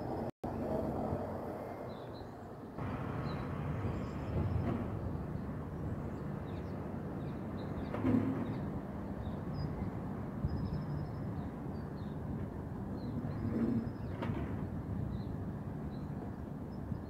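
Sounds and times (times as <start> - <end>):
low outdoor rumble: 0.0 - 16.4.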